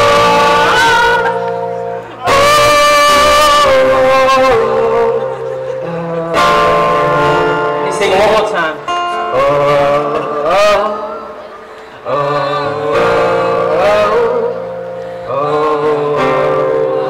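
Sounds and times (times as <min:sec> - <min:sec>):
acoustic guitar: 0:00.0 - 0:17.0
man singing: 0:00.0 - 0:17.0.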